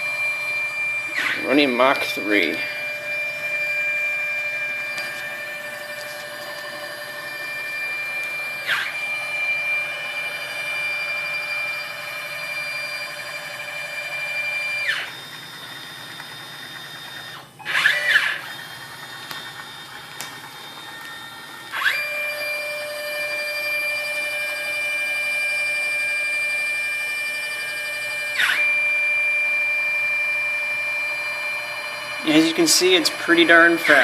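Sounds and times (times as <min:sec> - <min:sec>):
stepper motors whining: 0:00.0 - 0:34.0.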